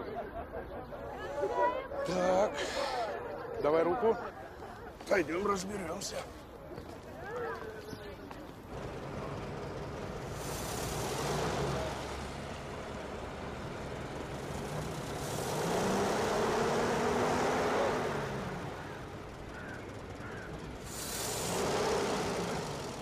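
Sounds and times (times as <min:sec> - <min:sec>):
vehicles driving past: 0:00.0 - 0:23.0.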